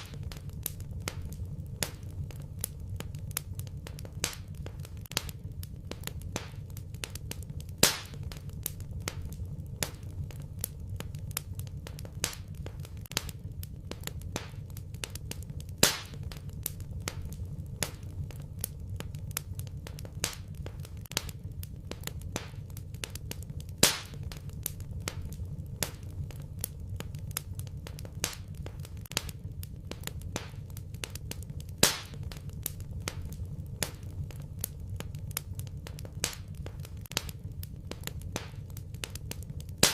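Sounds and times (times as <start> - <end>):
loud pops from fire: 0.0 - 39.9
low rumble of flames: 0.0 - 39.9
wood fire crackling: 0.0 - 39.9.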